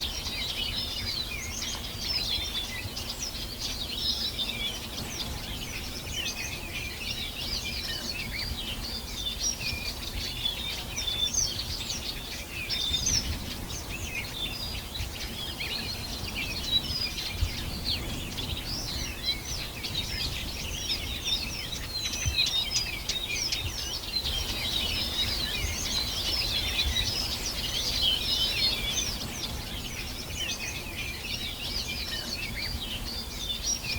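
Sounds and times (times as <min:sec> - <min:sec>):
songbirds chirping and singing: 0:00.0 - 0:33.9.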